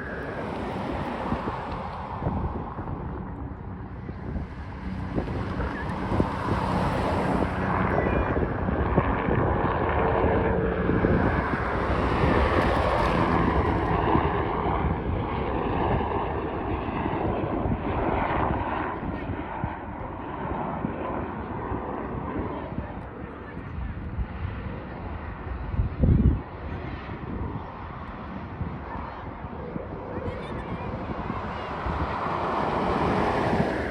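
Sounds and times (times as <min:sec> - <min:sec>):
helicopter engine and rotor: 0:00.0 - 0:33.9
wind buffeting microphone: 0:00.0 - 0:33.9.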